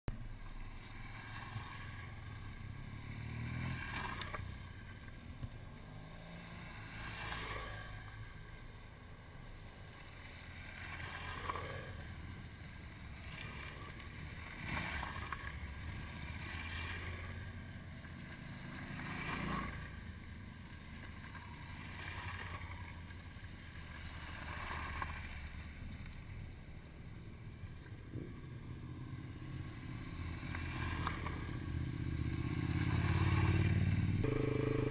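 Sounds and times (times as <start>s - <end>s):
motorcycles on gravel road: 0.1s - 34.9s.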